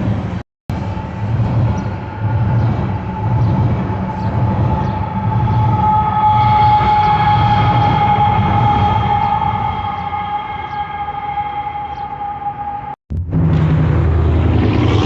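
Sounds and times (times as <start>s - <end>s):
train rumbling: 0.0s - 15.0s
high-pitched squeal: 0.7s - 15.0s.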